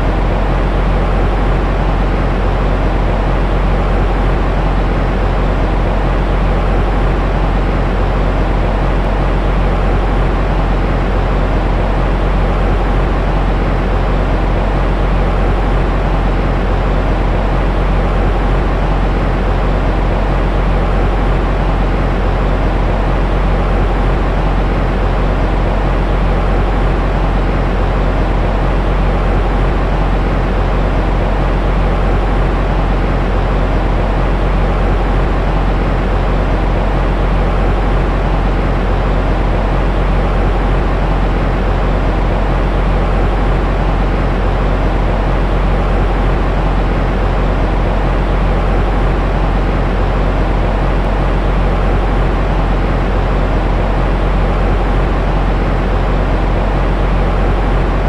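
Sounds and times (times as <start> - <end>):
deep rumbling white noise: 0.0 - 58.0.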